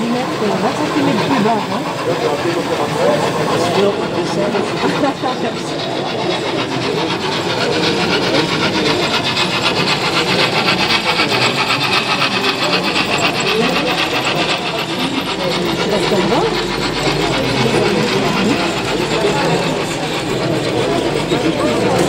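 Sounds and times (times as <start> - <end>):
model train clattering: 0.0 - 22.0
murmur of voices: 0.0 - 22.0.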